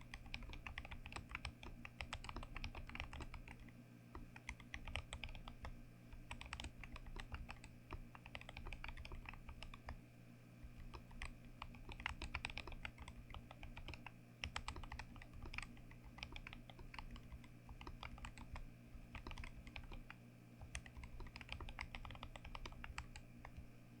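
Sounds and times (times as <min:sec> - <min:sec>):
mechanical keyboard typing: 0:00.0 - 0:10.0, 0:10.6 - 0:23.7
steady low hum: 0:00.0 - 0:24.0.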